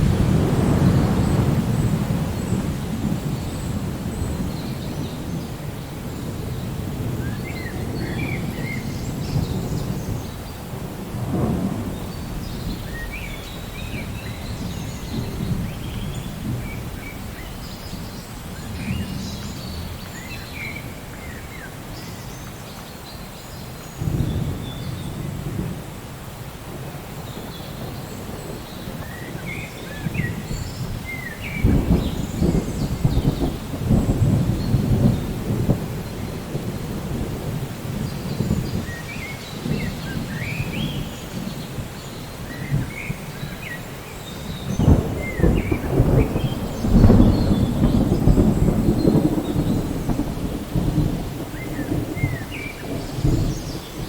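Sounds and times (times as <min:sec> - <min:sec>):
low rolling thunder: 0:00.0 - 0:22.3, 0:24.0 - 0:54.0
steady rain: 0:00.0 - 0:54.0.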